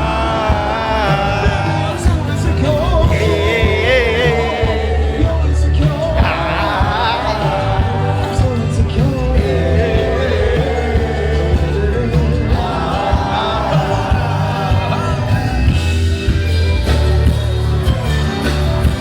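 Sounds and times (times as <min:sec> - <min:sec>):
person singing: 0:00.0 - 0:16.5
heavy bass line: 0:00.0 - 0:19.0
live band music: 0:00.0 - 0:19.0.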